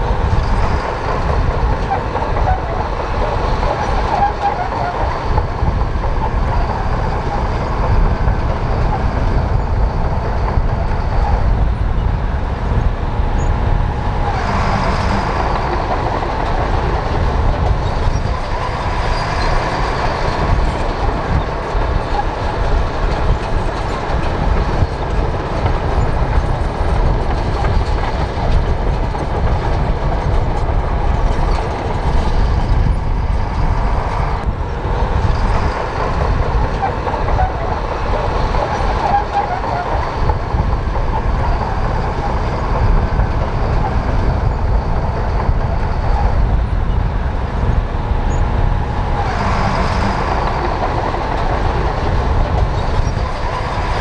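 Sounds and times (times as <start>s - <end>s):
diesel engine under load: 0.0s - 54.0s
steel tracks clattering: 0.0s - 54.0s.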